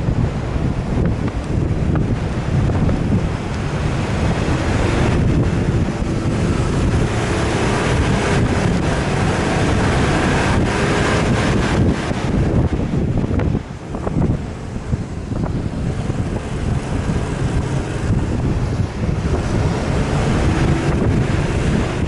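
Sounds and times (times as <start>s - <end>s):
off-road vehicle running: 0.0s - 22.0s
wind buffeting microphone: 0.0s - 22.0s.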